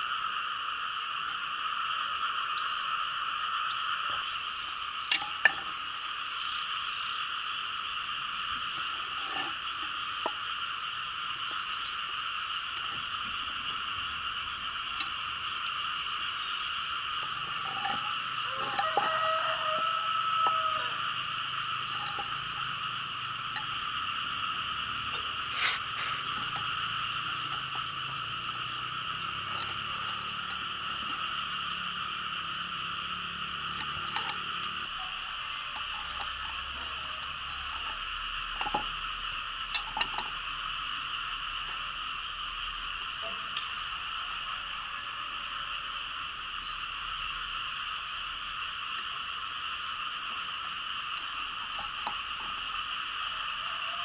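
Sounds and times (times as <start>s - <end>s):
frogs calling: 0.0s - 54.0s.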